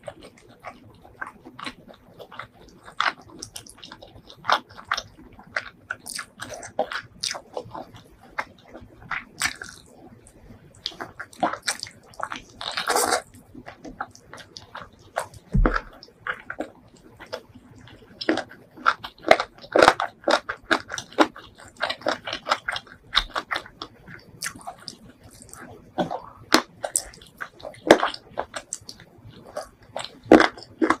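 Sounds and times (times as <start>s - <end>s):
person chewing and biting meat: 0.0s - 9.9s, 10.8s - 31.0s
mouth clicks and smacks: 0.0s - 31.0s.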